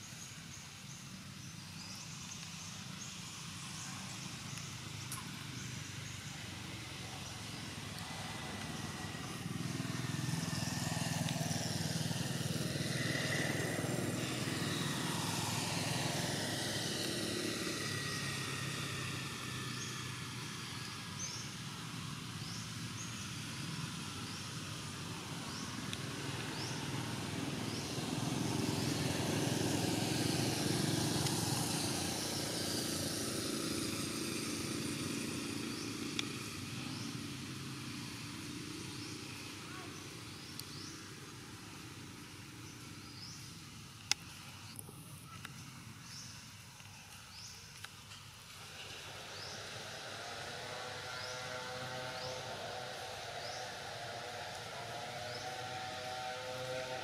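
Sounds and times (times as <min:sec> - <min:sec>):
passing motor vehicles: 0:00.0 - 0:57.0.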